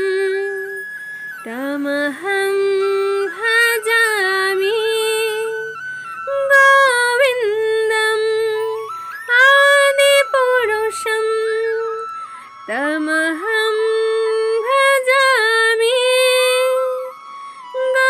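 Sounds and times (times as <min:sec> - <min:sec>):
woman singing devotional song: 0:00.0 - 0:18.0.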